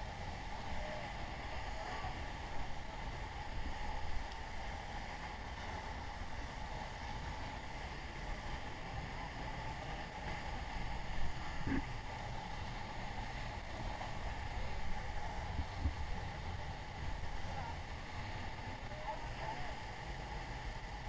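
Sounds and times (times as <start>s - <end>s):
waterfall rushing: 0.0s - 21.0s
wind rumble on microphone: 0.0s - 21.0s.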